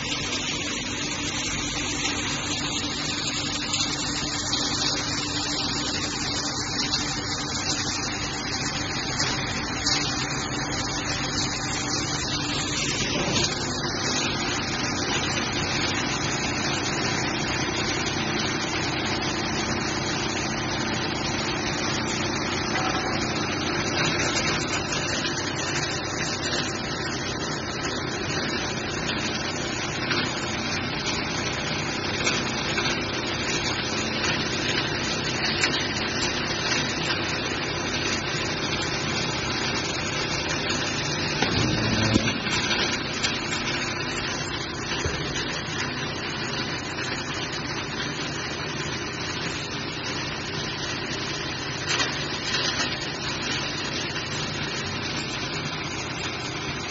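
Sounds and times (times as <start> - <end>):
extrusion machinery running: 0.0 - 56.9.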